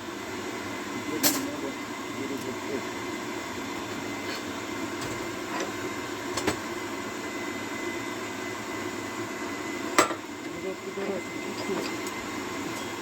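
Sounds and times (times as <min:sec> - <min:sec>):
forge air blower humming: 0:00.0 - 0:13.0.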